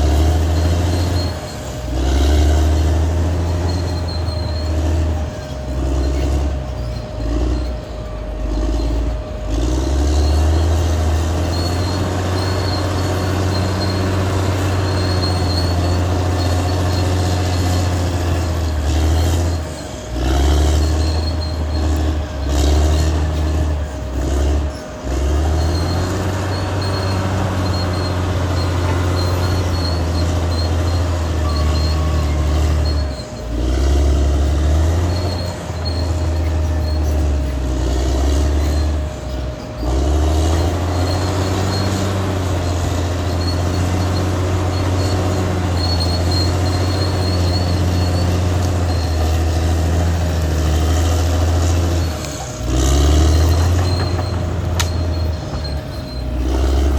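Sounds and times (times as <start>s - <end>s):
bulldozer diesel engine: 0.0s - 56.9s
high squeal from running gear: 0.0s - 56.9s.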